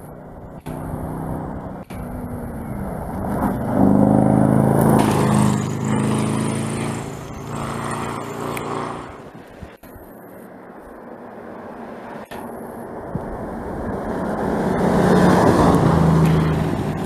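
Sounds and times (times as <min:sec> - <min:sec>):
car engine passing by: 0:00.0 - 0:09.8, 0:11.2 - 0:17.0.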